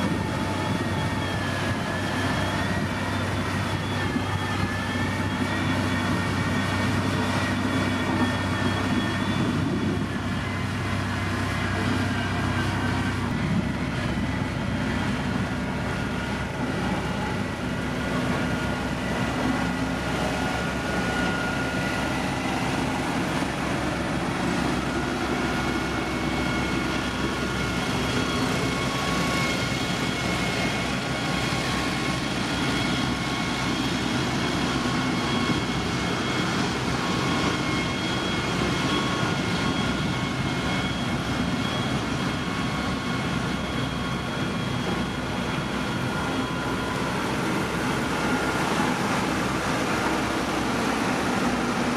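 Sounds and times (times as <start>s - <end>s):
heavy machinery engine drone: 0.0s - 51.9s
high steady whine: 0.0s - 51.9s.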